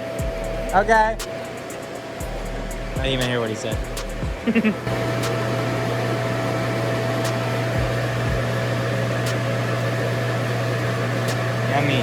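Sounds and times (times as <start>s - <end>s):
workshop machine humming: 0.0s - 12.0s.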